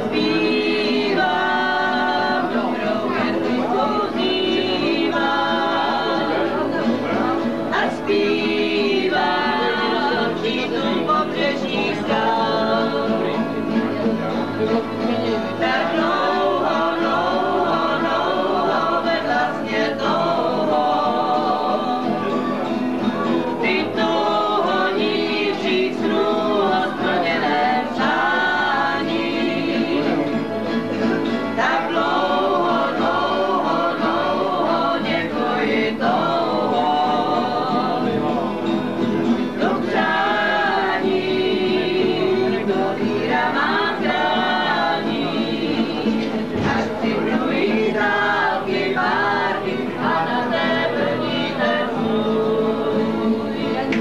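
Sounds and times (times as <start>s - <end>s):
group singing: 0.0s - 54.0s
strummed acoustic guitars: 0.0s - 54.0s.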